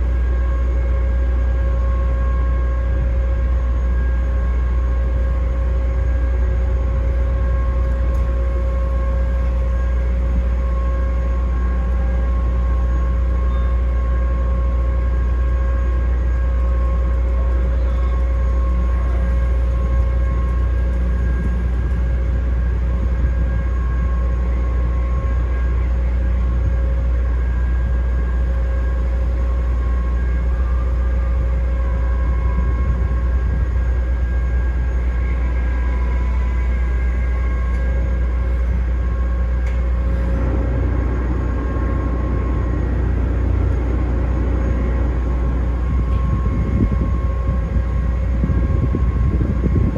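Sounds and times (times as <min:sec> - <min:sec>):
ferry engines rumbling: 0:00.0 - 0:49.9
steady high whine: 0:00.0 - 0:49.9.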